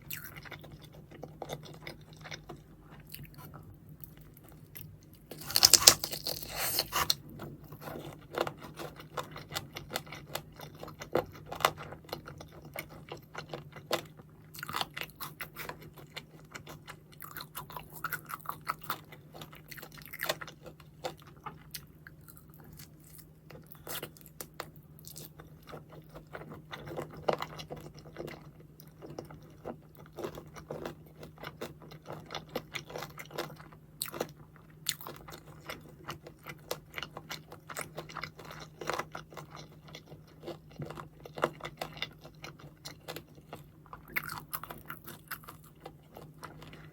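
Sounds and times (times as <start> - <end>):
chewing crispy food: 0.0 - 46.9.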